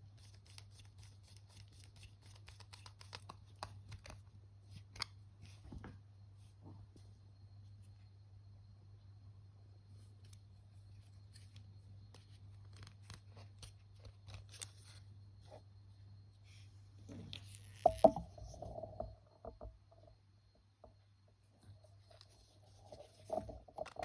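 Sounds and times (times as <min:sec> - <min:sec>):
steady low hum: 0:04.3 - 0:24.0.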